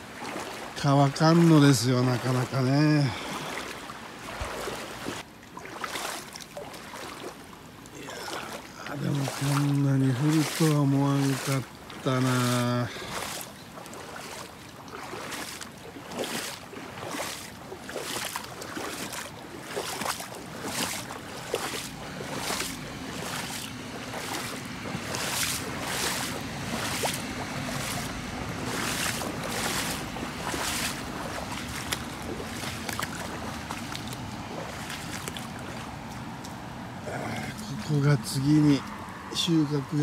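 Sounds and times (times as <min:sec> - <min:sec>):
footsteps splashing through water: 0:00.0 - 0:39.9.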